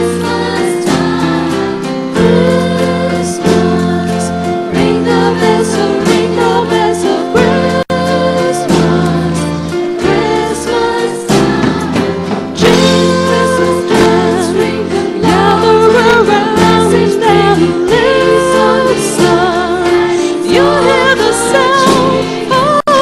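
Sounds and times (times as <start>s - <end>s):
choir singing: 0.0s - 23.0s
instrumental accompaniment: 0.0s - 23.0s.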